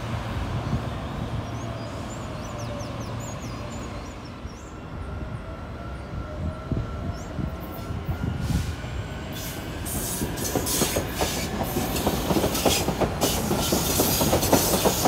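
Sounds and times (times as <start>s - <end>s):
electric train rumbling with whine: 0.0s - 15.0s.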